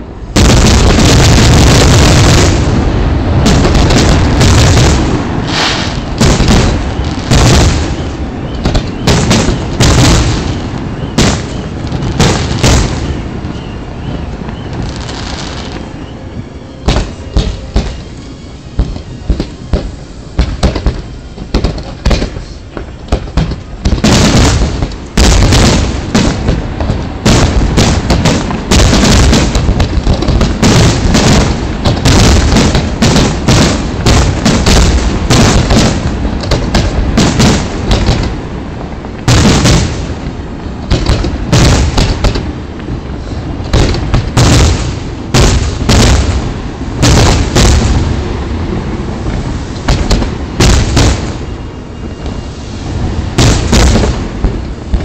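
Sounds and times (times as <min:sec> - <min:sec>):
fireworks rumble and crackle: 0:00.0 - 0:55.0.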